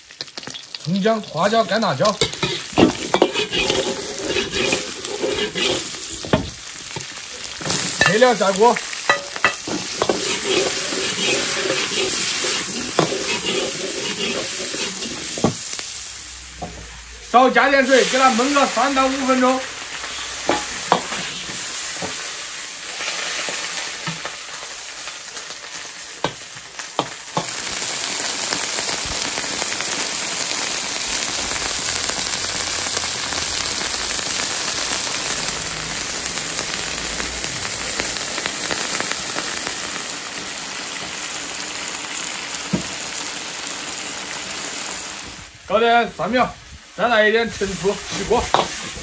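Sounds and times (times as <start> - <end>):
food sizzling and bubbling in a wok: 0.0 - 49.0.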